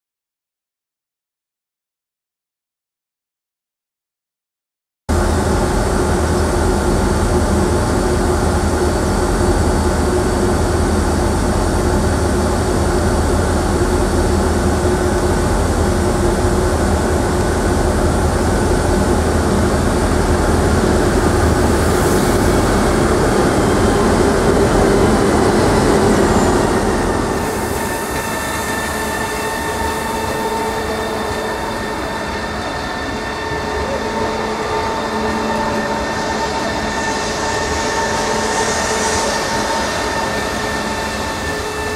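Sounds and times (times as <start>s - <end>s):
train machinery rumbling: 5.1s - 41.9s.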